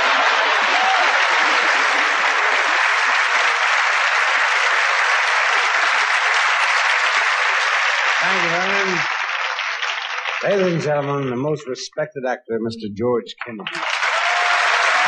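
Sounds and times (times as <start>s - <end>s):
audience applause: 0.0s - 11.4s, 13.4s - 15.0s.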